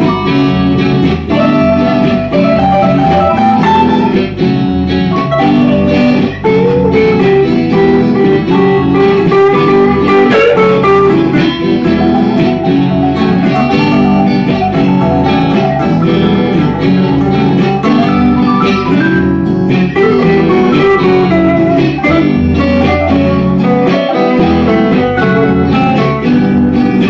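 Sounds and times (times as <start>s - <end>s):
bass guitar: 0.0s - 27.0s
electric guitars: 0.0s - 27.0s
keyboard: 0.0s - 27.0s.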